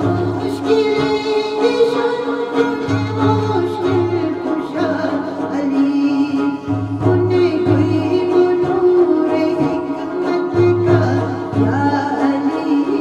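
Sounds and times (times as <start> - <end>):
instrumental accompaniment: 0.0 - 13.0
woman singing devotional song: 0.0 - 13.0.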